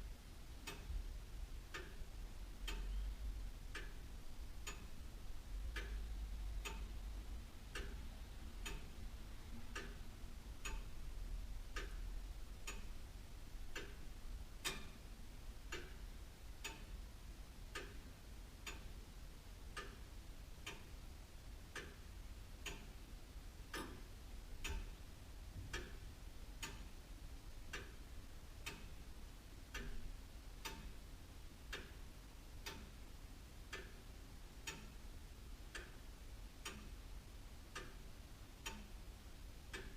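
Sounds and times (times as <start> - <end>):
clock ticking: 0.5 - 39.9.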